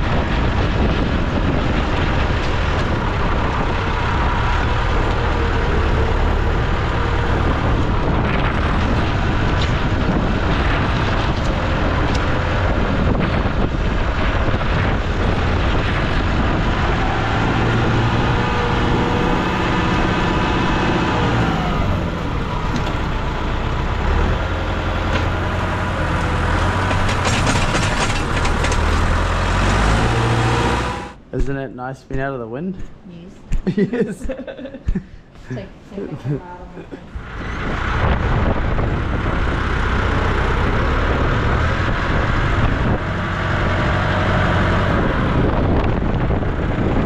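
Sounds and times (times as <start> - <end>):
wind noise: 0.0 - 31.7, 32.3 - 47.0.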